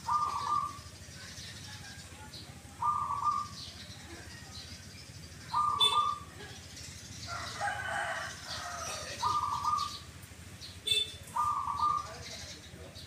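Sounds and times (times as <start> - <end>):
doves calling kuk notes: 0.0 - 13.0.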